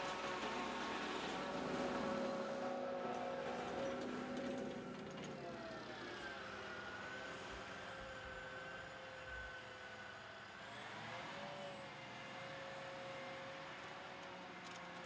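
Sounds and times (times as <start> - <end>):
forage harvester machine drone: 0.0 - 15.0.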